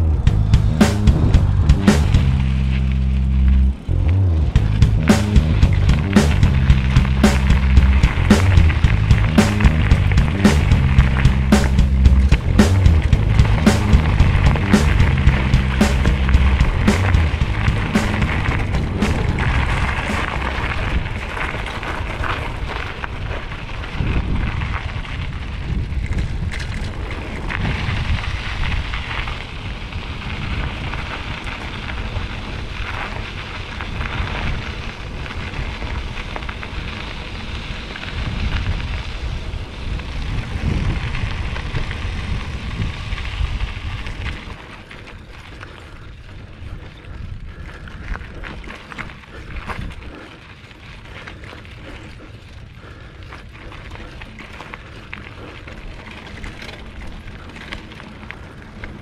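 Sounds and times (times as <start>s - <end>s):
tyres crackling over gravel: 0.0s - 59.0s
wind rumbling on microphone: 0.0s - 59.0s.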